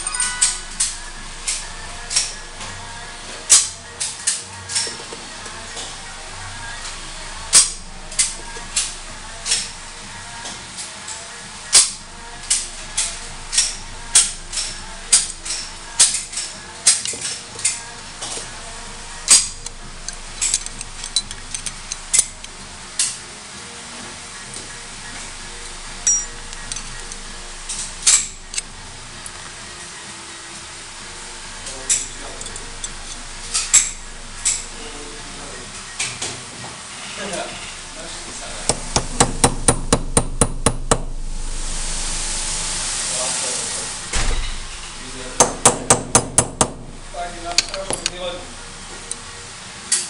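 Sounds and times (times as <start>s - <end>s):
low steady hum: 0.0s - 4.0s, 5.0s - 10.7s, 11.4s - 36.5s, 37.4s - 49.6s.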